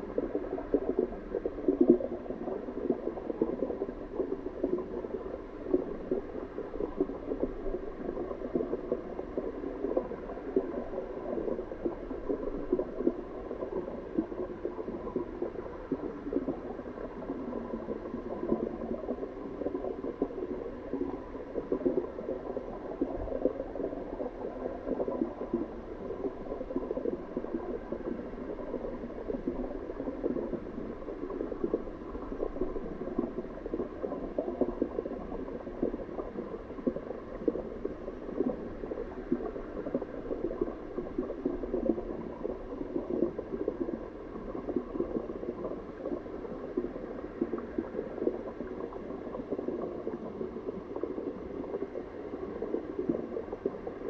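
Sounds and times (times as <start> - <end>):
water bubbling and gurgling: 0.0 - 54.0.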